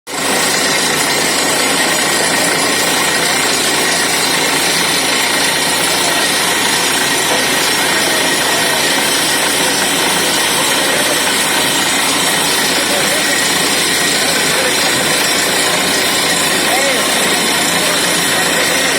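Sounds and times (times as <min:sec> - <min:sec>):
drilling rig running: 0:00.1 - 0:18.9.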